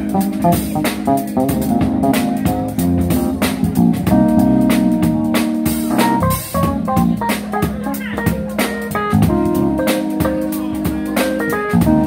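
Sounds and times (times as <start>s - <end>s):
electric bass guitar: 0.0s - 12.0s
stage piano: 0.0s - 12.0s.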